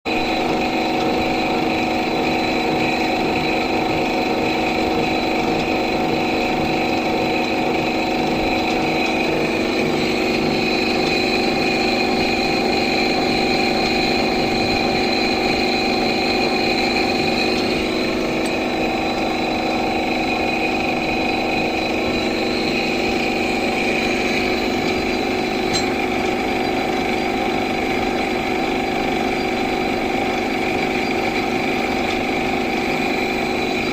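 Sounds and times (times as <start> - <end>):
machine tool humming: 0.1 - 33.9.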